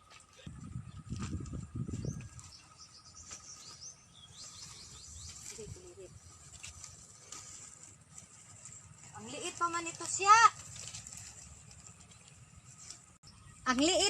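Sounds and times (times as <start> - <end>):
small birds chirping: 0.2 - 14.0
rustling and handling noise: 1.1 - 13.2.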